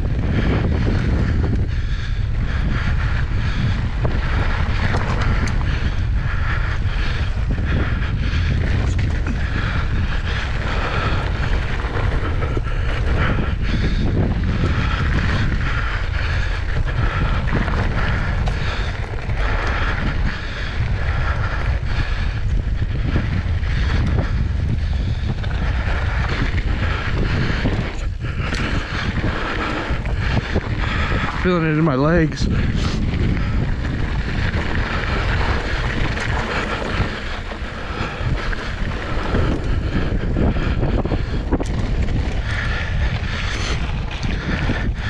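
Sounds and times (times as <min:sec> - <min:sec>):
bike rattling over bumps: 0:00.0 - 0:45.0
wind buffeting microphone: 0:00.0 - 0:45.0
tyres rolling on dirt: 0:02.2 - 0:45.0.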